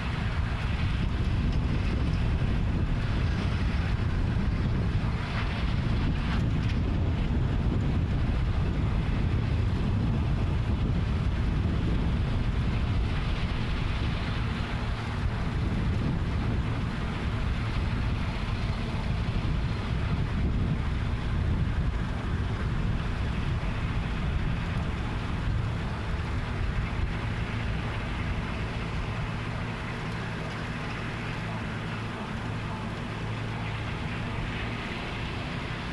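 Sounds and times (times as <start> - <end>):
tractor engine running: 0.0 - 35.9
wind buffeting microphone: 0.0 - 35.9.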